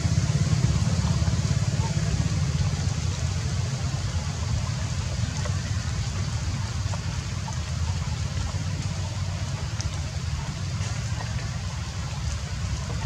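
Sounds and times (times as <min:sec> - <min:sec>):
faint drip ticks: 0:00.0 - 0:13.0
steady hiss of dripping rain: 0:00.0 - 0:13.0
steady low rumble: 0:00.0 - 0:13.0.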